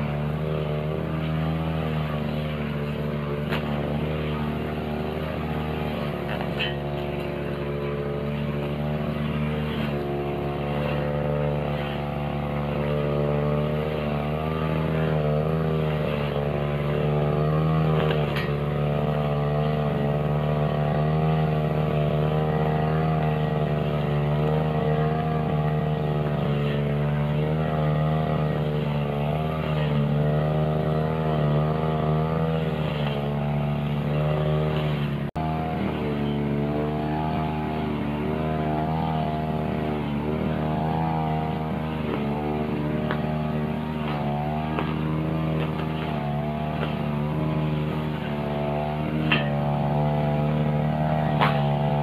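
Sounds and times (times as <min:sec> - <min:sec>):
brush cutter cutting grass: 0:00.0 - 0:52.0.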